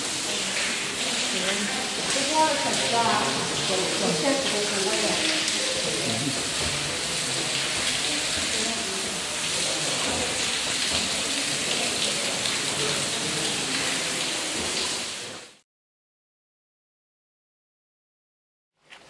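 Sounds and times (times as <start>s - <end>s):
water splashing in cave: 0.0s - 15.6s.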